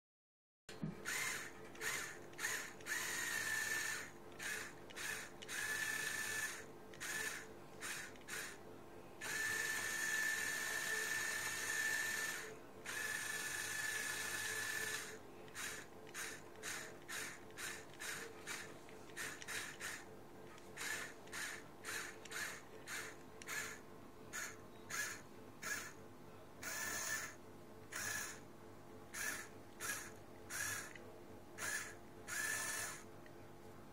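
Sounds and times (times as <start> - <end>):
small electric motor whining: 1.0 - 8.6, 9.2 - 20.0, 20.8 - 23.8, 24.4 - 26.0, 26.6 - 28.4, 29.2 - 31.0, 31.6 - 33.0.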